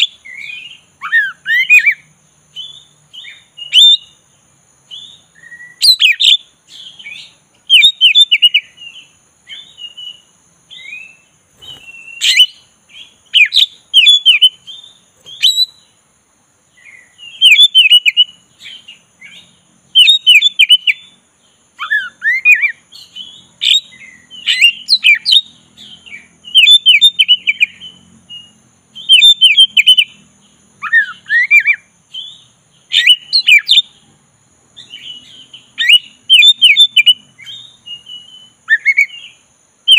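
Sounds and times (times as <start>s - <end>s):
bird singing varied phrases: 0.0s - 39.9s.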